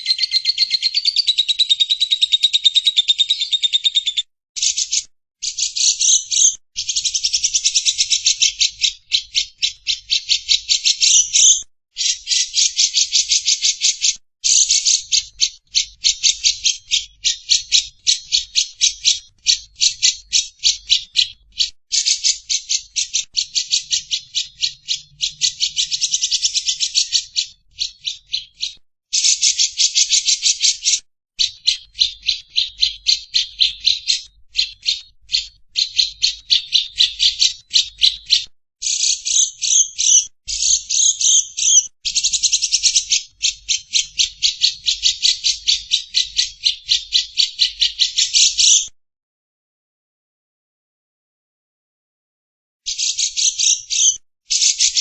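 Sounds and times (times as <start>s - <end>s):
lovebird chattering: 0.0s - 48.9s, 52.9s - 55.0s.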